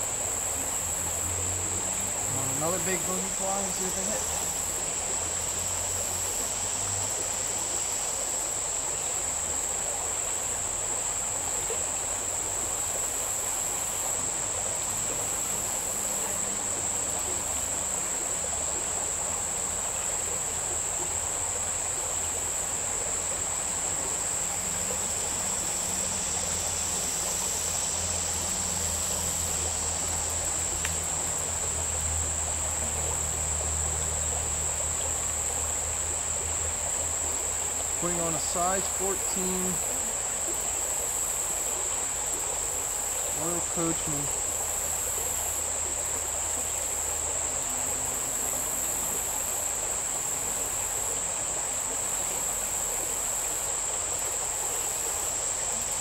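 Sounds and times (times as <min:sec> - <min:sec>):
insects droning: 0:00.0 - 0:56.0
stream rushing: 0:00.0 - 0:56.0.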